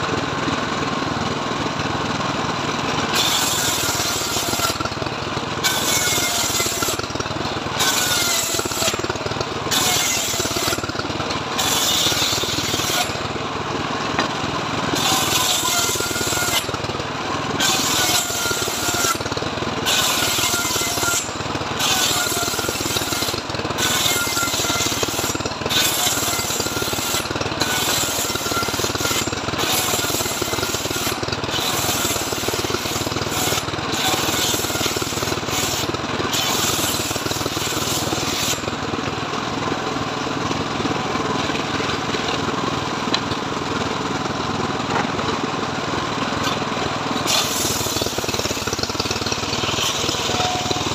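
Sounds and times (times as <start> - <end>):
circular saw cutting wood: 0.0 - 45.4, 46.0 - 50.9.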